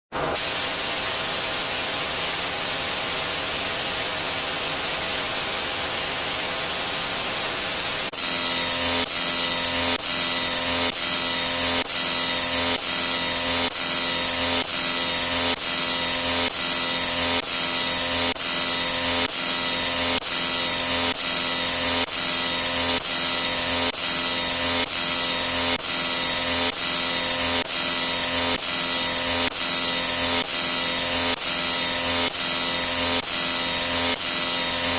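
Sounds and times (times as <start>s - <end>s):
loud static hiss: 0.2s - 34.9s.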